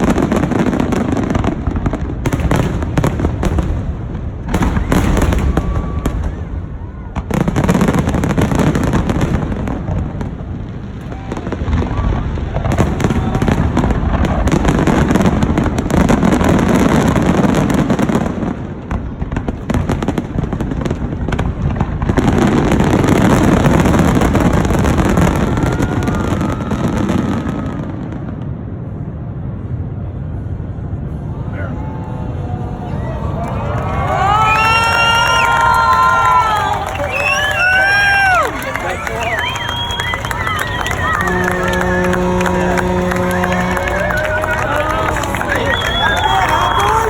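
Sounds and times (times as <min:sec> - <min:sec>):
fireworks booming and crackling: 0:00.0 - 0:47.0.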